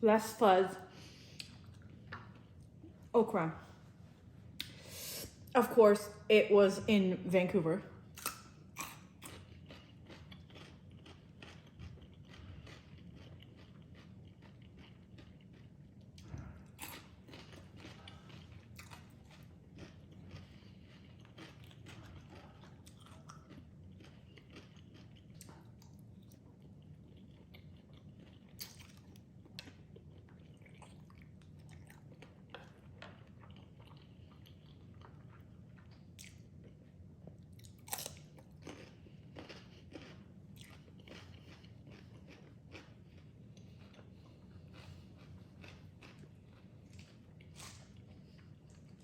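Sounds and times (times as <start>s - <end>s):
person chewing crunchy salad: 1.1s - 3.1s, 8.1s - 49.0s.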